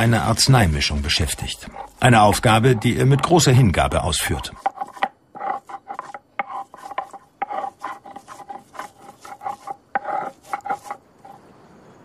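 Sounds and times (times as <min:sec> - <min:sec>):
herbs ground on stone slab: 0:01.0 - 0:11.4.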